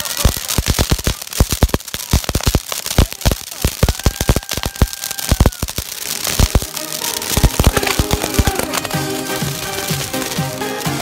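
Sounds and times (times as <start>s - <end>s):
fireworks crackling pops: 0.0s - 11.0s.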